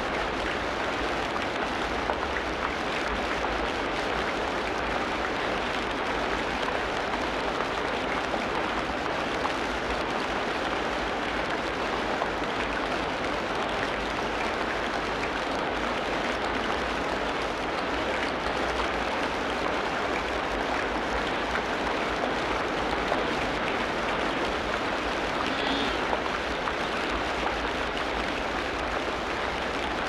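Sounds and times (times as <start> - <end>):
heavy rain pattering: 0.0 - 30.0.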